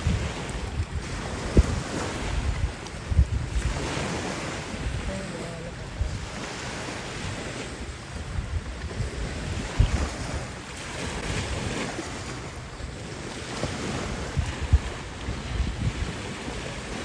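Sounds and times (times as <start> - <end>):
small waves washing over rocks: 0.0 - 17.0
wind buffeting microphone: 0.0 - 17.0.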